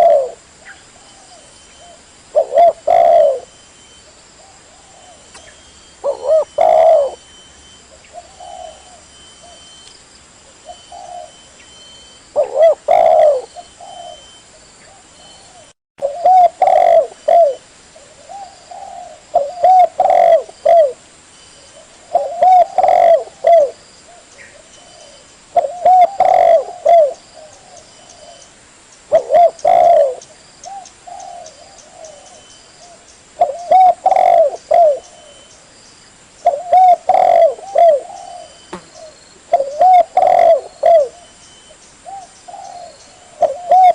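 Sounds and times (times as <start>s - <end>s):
dove cooing: 0.0s - 0.4s, 1.0s - 7.3s, 7.9s - 9.7s, 10.6s - 11.5s, 12.3s - 21.0s, 21.7s - 28.5s, 29.1s - 35.5s, 36.4s - 41.4s, 42.0s - 43.9s.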